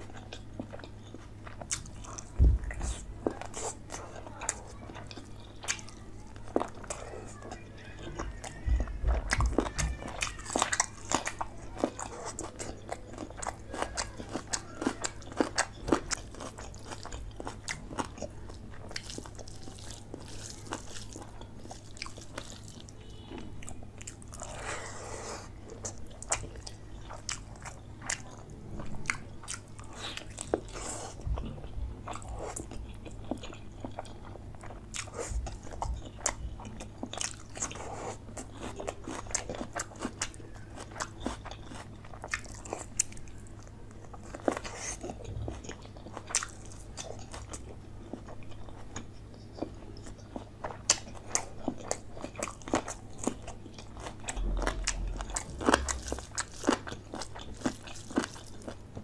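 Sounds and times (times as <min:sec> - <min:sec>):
biting and chewing: 0:00.0 - 0:59.0.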